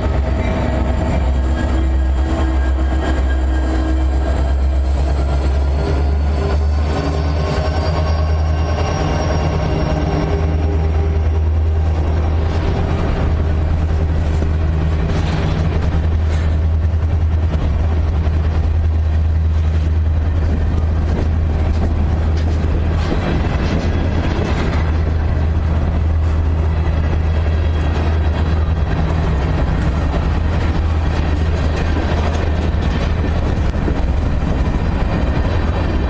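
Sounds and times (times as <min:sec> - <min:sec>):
diesel locomotive engine drone: 0:00.0 - 0:36.0
train passing by: 0:00.0 - 0:36.0.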